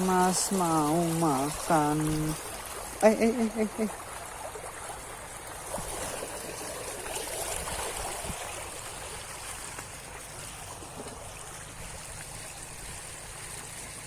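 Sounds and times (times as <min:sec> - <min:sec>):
river water trickling: 0:00.0 - 0:14.0.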